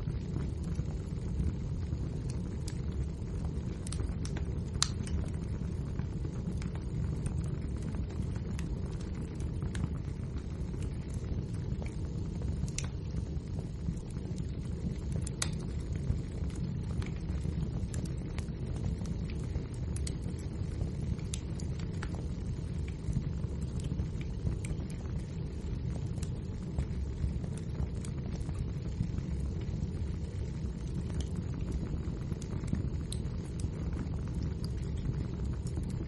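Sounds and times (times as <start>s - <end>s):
burning logs crackling: 0.0s - 36.0s
low rumble of flame: 0.0s - 36.0s.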